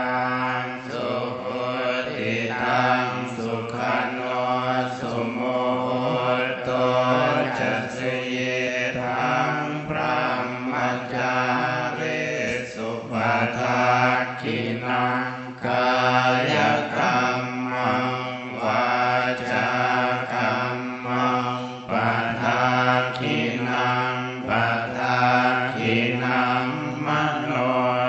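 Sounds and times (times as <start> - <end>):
monks chanting: 0.0 - 28.0.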